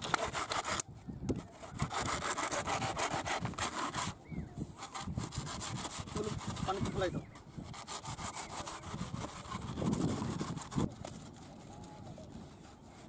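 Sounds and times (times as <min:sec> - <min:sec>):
blade sawing through tree trunk: 0:00.0 - 0:00.8, 0:01.4 - 0:04.2, 0:04.8 - 0:13.0.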